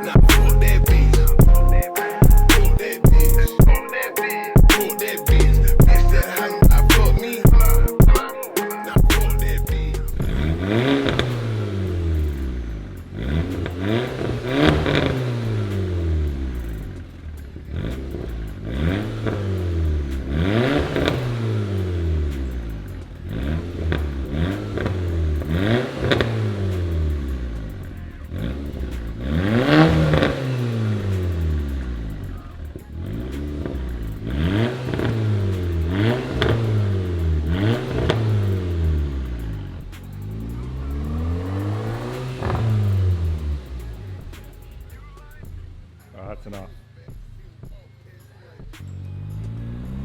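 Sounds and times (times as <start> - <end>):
car engine revving through loud exhaust: 0.0 - 1.8, 9.1 - 46.7, 48.8 - 50.0.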